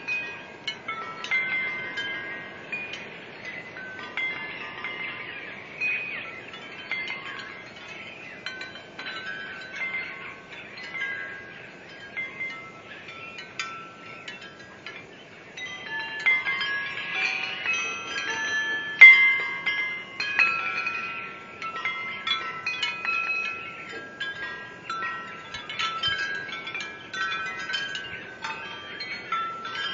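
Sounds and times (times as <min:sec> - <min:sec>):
wind chimes ringing: 0:00.0 - 0:29.9.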